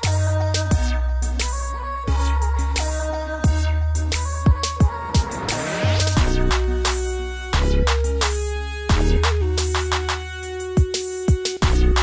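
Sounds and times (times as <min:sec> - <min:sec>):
deep bass notes: 0:00.0 - 0:09.9.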